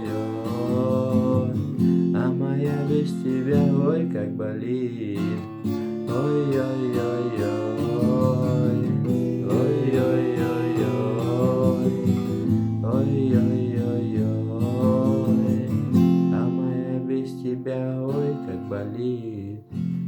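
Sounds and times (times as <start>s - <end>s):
wordless singing: 0.0s - 19.7s
acoustic guitar strumming: 0.0s - 20.0s.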